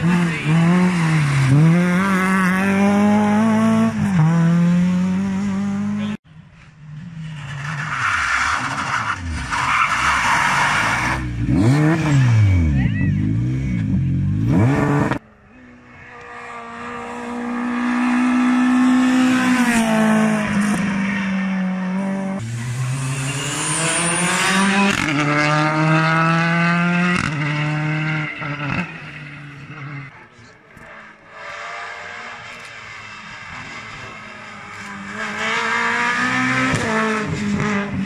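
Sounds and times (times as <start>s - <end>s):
rally car engines revving: 0.0s - 38.0s.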